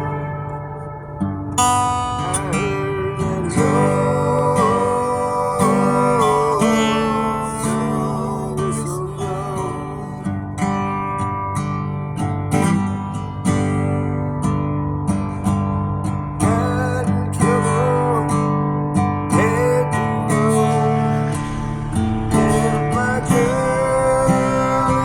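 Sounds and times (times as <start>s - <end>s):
guitar strumming: 0.0s - 25.0s.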